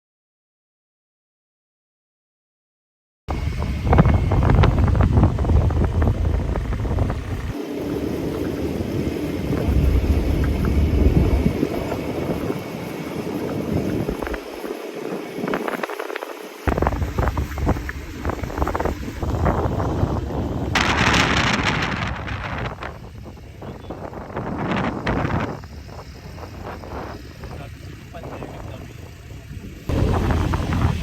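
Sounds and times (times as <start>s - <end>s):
wind buffeting microphone: 3.3s - 31.0s.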